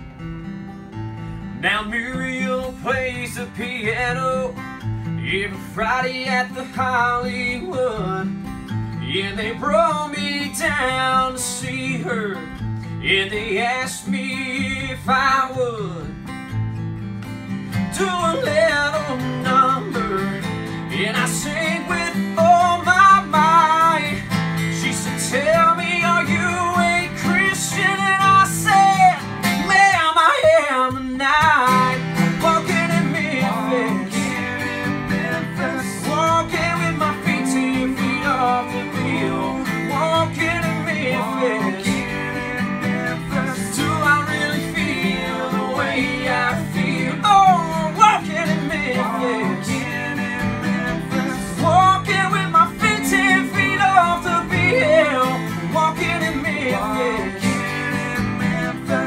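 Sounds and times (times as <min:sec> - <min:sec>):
acoustic guitars strumming: 0:00.0 - 0:59.0
man singing: 0:01.6 - 0:16.3, 0:17.7 - 0:59.0.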